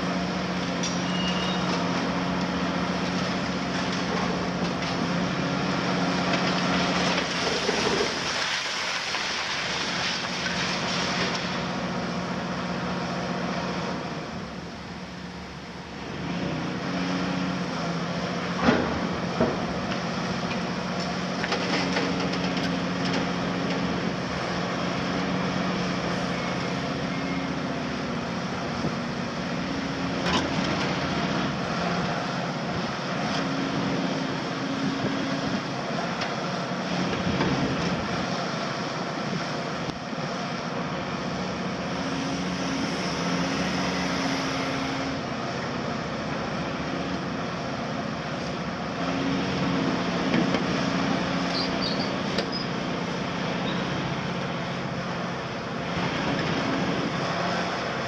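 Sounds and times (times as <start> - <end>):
excavator engine and hydraulics hum: 0.0 - 58.0.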